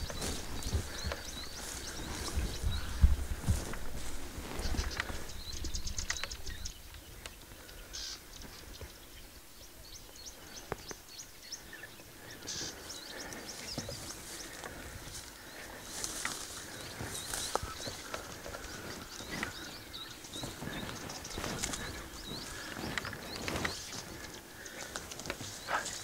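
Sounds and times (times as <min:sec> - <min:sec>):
clicks and rustles in grass: 0:00.0 - 0:09.0, 0:12.2 - 0:26.0
small birds chirping: 0:00.0 - 0:26.0.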